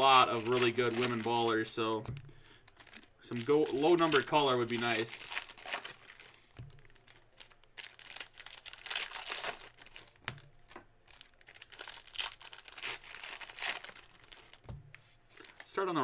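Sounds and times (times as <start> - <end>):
foil wrapper crinkling and tearing: 0.0 - 16.0.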